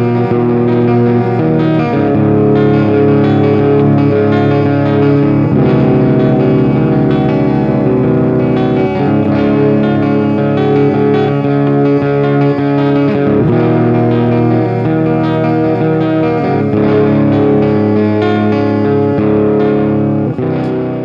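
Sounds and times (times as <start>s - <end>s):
electric guitar chords: 0.0s - 21.0s.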